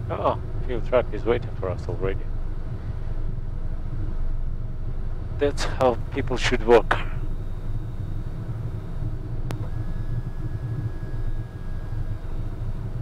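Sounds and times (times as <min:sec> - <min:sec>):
jet engines idling hum: 0:00.0 - 0:13.0
thin steady tone: 0:00.1 - 0:13.0.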